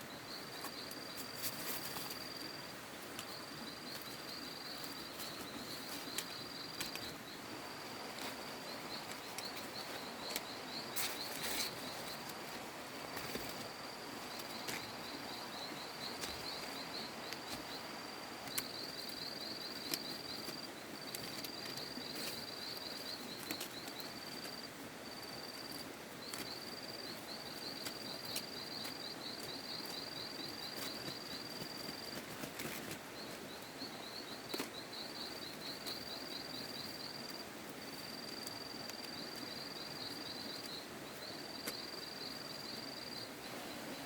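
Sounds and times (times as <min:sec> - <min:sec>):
steady outdoor hiss: 0:00.0 - 0:44.0
insect trilling: 0:03.2 - 0:44.0.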